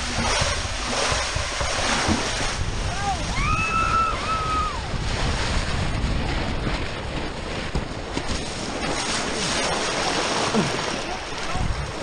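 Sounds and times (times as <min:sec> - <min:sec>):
rushing water on a water slide: 0:00.0 - 0:12.0
wind noise on microphone: 0:00.0 - 0:12.0.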